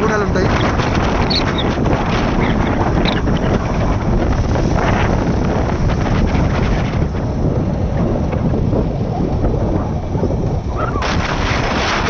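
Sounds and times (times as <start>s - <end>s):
motorcycle road noise: 0.0s - 12.0s
wind buffeting microphone: 0.0s - 12.0s.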